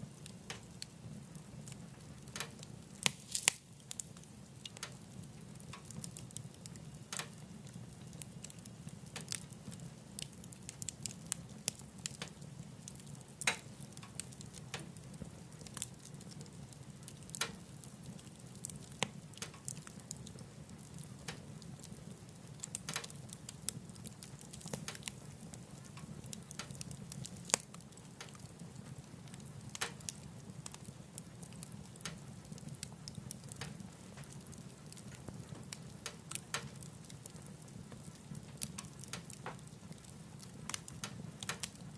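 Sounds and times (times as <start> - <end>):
wood fire crackling in a stove: 0.0 - 41.9.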